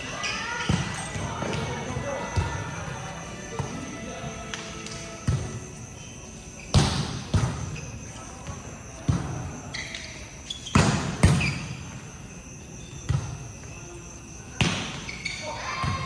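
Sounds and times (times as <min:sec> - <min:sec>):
shoe squeaks: 0:00.0 - 0:16.0
balls bouncing on court floor: 0:00.2 - 0:05.9, 0:06.6 - 0:12.1, 0:12.8 - 0:13.8, 0:14.5 - 0:16.0.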